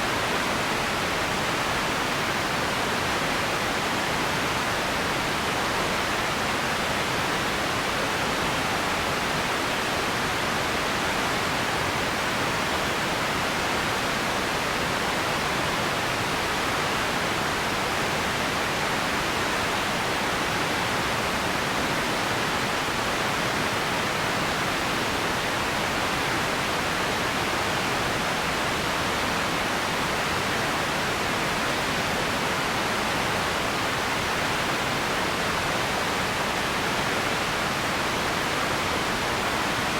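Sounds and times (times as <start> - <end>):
steady ambience hiss: 0.0 - 39.9.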